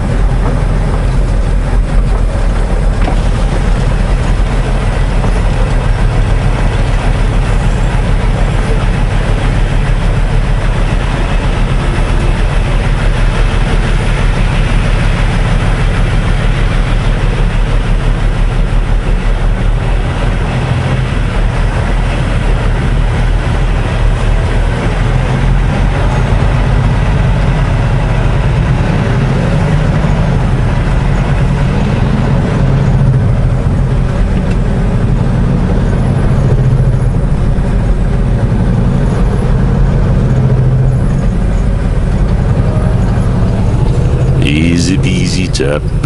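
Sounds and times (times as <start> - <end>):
road and wind noise: 0.0 - 46.0
truck diesel engine running: 0.0 - 46.0.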